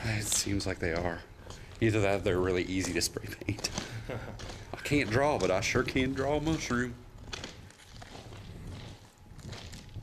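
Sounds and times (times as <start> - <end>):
footsteps in a tunnel: 0.0 - 10.0.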